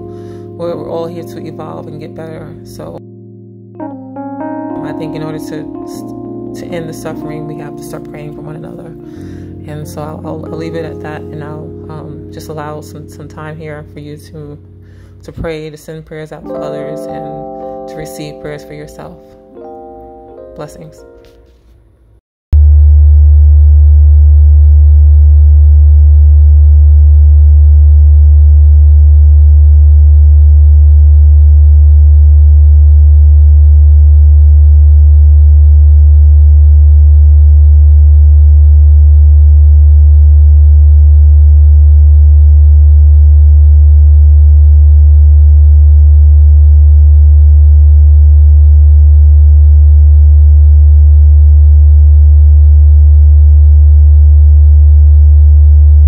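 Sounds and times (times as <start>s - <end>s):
low electronic hum: 0.0s - 56.0s.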